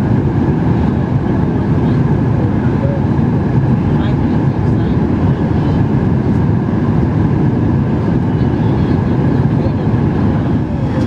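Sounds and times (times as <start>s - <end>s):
airflow over fuselage: 0.0s - 11.0s
jet engine cabin rumble: 0.0s - 11.0s.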